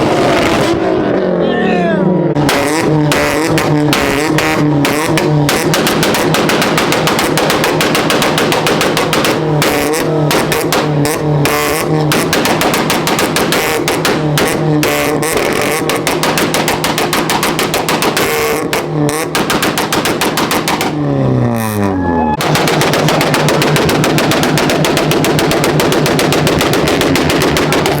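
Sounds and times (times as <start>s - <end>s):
exhaust popping and crackling: 0.0s - 1.4s, 2.2s - 28.0s
car engine on rev limiter: 0.0s - 28.0s.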